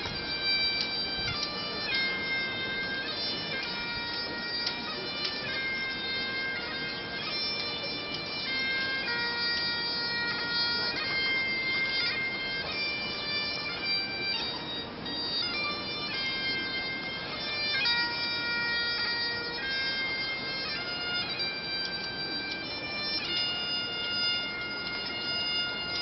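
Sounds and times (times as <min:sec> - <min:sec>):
bagpipe playing slow tune: 0:00.0 - 0:26.0.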